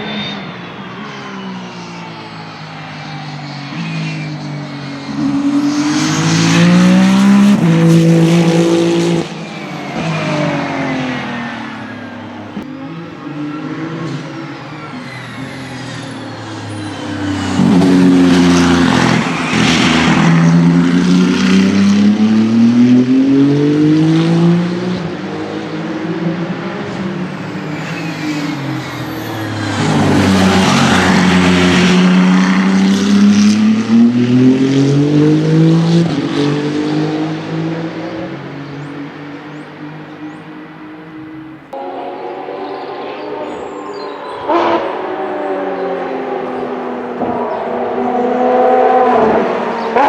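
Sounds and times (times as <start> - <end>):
race cars passing: 0.0 - 50.0.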